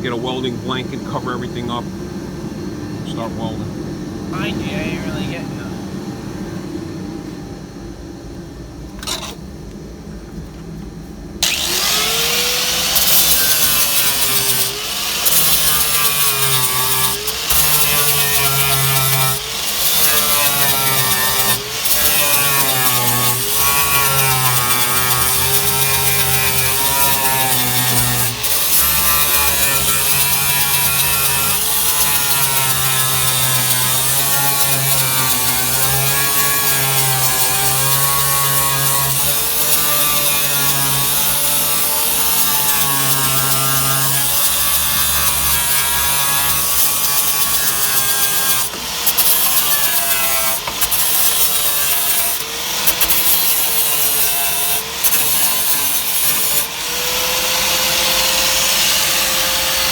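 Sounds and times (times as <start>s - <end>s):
grinder grinding sheet metal: 9.0s - 9.4s, 11.4s - 59.9s.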